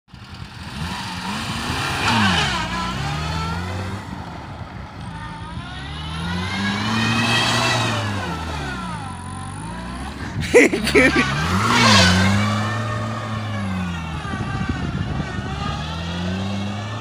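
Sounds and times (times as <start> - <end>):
car engine revving hard: 0.5 - 4.2, 5.5 - 17.0.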